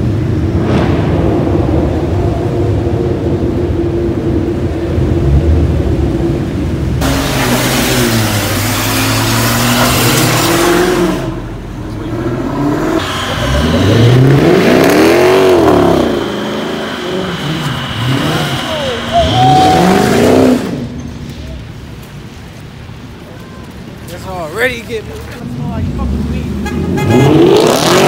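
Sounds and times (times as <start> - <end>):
car engines revving hard: 0.0 - 21.3, 24.1 - 28.0.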